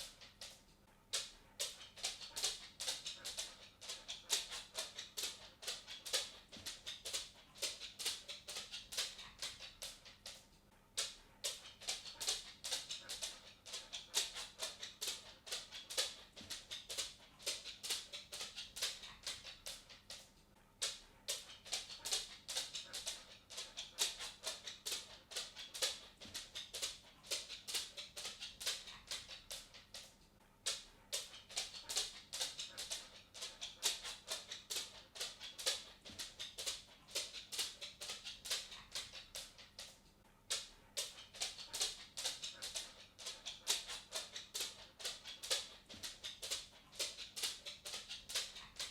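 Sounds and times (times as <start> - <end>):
cat footsteps ticking: 0.0 - 48.9.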